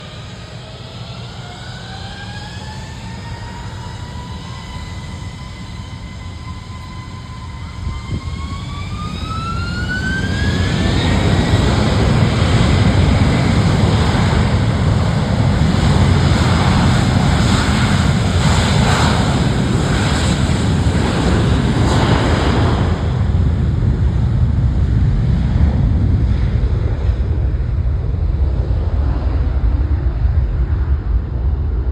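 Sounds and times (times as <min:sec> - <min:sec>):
jet engines spooling up: 0:00.0 - 0:31.8.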